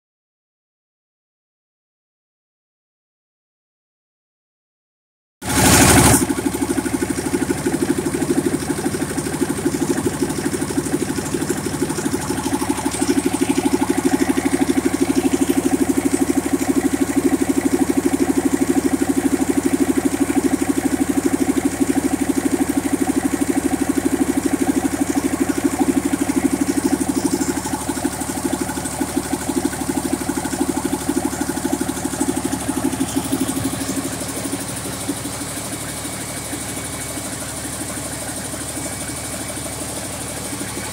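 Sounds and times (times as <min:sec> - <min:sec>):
diesel engine clattering: 0:05.4 - 0:40.9.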